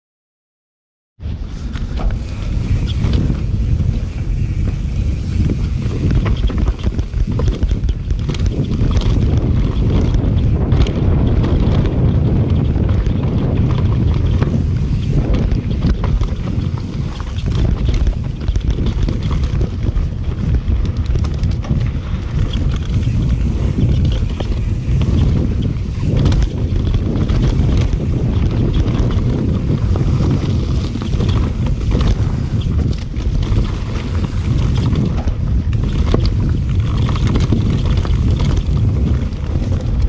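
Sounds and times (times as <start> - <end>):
wind buffeting microphone: 1.2 - 40.0
bike clicks and rattles: 1.3 - 40.0.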